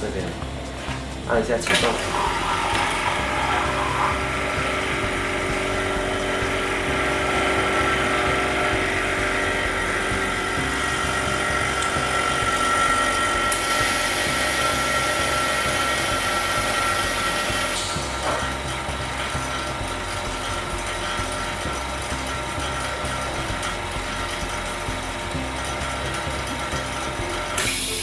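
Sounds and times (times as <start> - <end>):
machine drone with high whine: 0.0 - 28.0.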